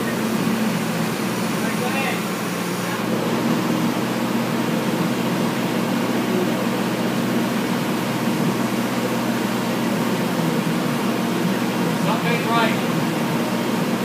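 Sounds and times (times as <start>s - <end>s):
low mechanical drone: 0.0s - 14.0s.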